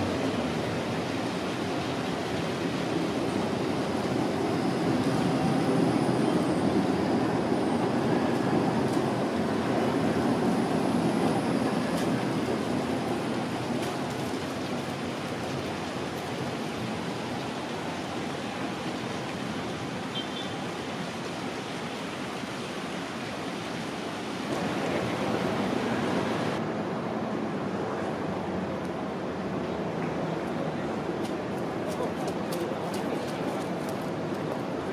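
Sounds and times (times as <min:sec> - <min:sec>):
tram rolling past on rails: 0:00.0 - 0:20.0, 0:24.0 - 0:34.9
street ambience: 0:00.0 - 0:34.9.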